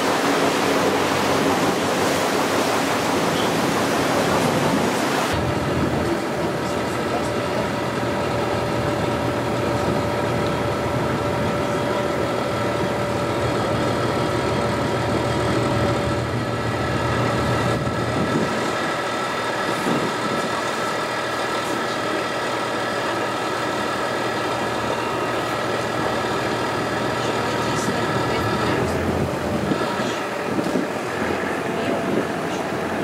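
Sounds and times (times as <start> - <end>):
motorboat engine running: 0.0 - 33.0.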